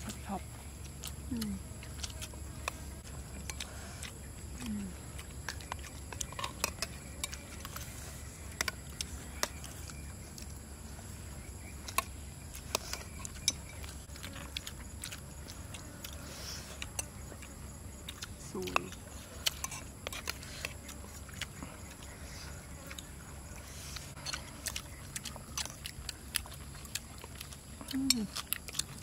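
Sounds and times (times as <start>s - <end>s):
quiet chewing: 0.0s - 29.0s.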